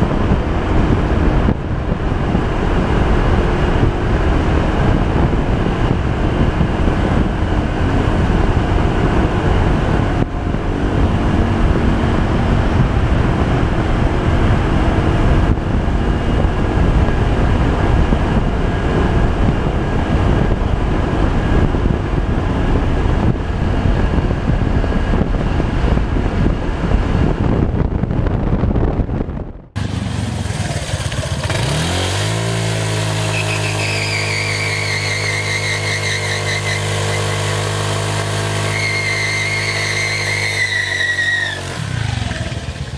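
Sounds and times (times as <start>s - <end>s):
scooter engine: 0.0s - 27.6s, 29.8s - 42.9s
wind and road noise: 0.0s - 42.9s.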